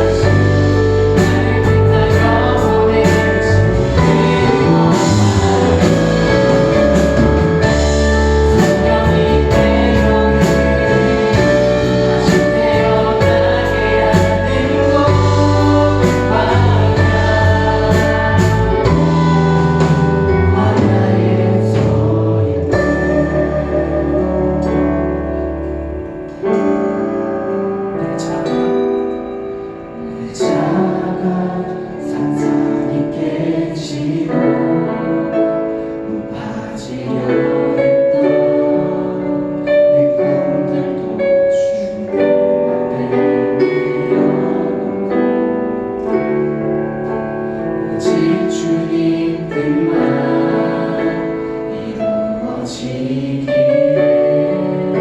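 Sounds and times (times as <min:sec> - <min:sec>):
group singing worship song: 0:00.0 - 0:27.2, 0:29.6 - 0:55.0
keyboard accompaniment: 0:00.0 - 0:55.0.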